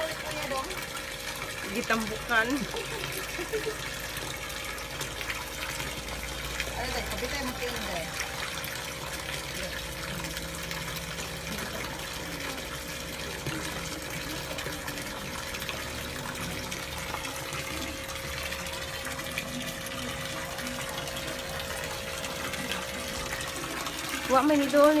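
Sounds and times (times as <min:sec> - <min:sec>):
water pouring into pond: 0:00.0 - 0:25.0.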